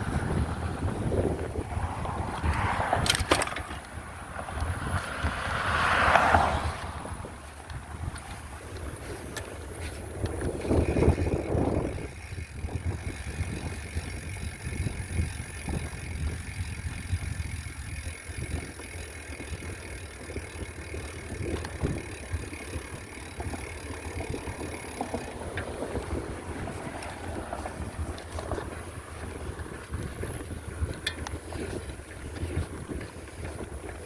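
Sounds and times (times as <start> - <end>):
bicycle rattling: 0.0 - 34.0
bicycle riding rumble: 0.0 - 34.0.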